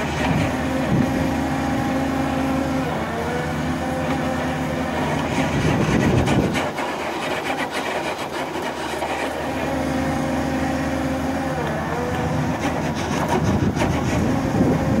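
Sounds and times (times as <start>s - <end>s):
excavator diesel engine running: 0.0s - 15.0s
hydraulic drill working: 0.0s - 15.0s.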